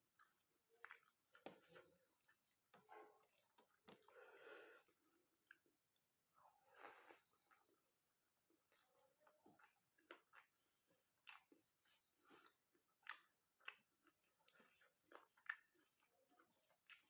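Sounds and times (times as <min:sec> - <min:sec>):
wet chewing mouth sounds: 0:00.0 - 0:17.0.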